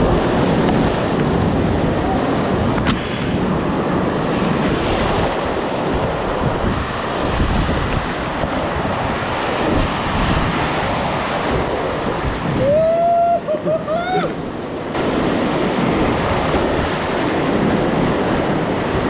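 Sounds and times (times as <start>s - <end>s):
whitewater rapids rushing: 0.0s - 19.0s
wind buffeting microphone: 0.0s - 19.0s.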